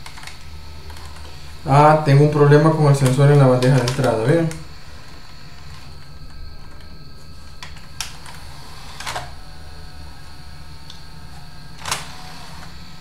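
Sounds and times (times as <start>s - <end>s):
disc tray mechanism clicking: 0.0s - 1.7s, 2.4s - 13.0s
electrical hum: 0.0s - 13.0s.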